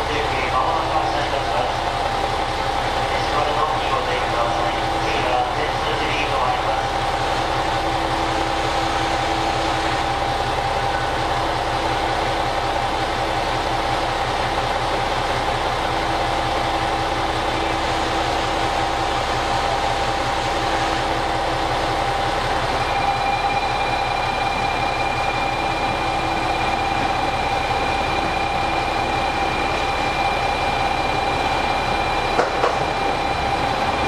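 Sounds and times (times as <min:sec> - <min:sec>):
diesel railcar engines idling: 0:00.0 - 0:34.0.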